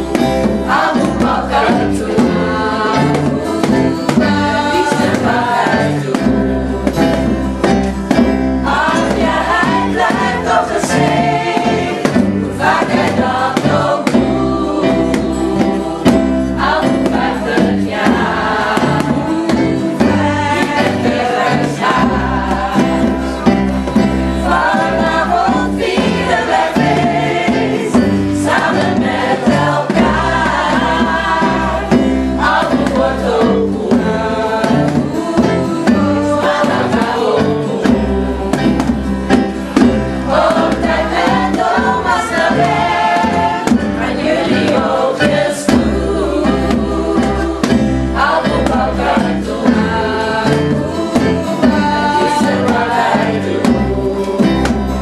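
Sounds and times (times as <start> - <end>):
group of voices singing: 0.0 - 55.0
instrumental backing with bass notes: 0.0 - 55.0.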